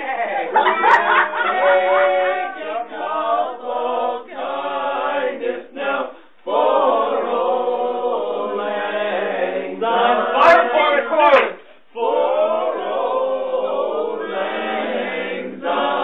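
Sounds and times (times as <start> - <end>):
group singing unaccompanied: 0.3 - 16.0.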